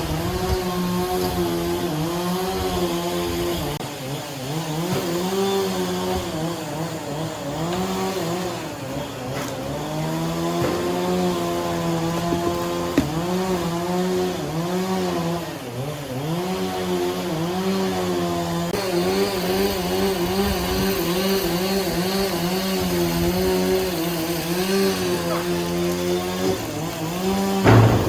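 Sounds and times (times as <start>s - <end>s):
engine saw cutting wood: 0.0s - 28.0s.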